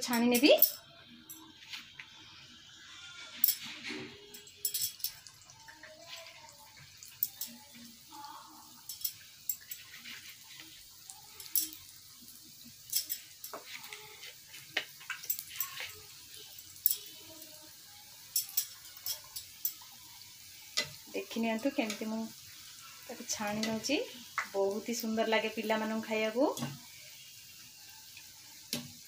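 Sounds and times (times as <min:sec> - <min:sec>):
dough frying in oil: 0:00.0 - 0:29.0.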